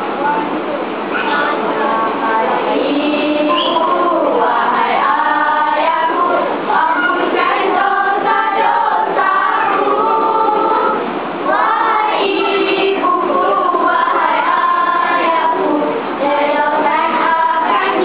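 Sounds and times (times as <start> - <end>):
girls singing together: 1.2 - 18.0.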